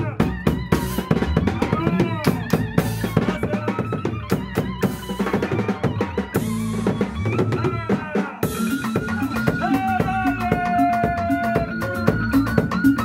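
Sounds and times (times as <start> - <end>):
bass guitar line: 0.0 - 13.0
drum kit: 0.0 - 13.0
keyboard melody bending in pitch: 0.0 - 13.0.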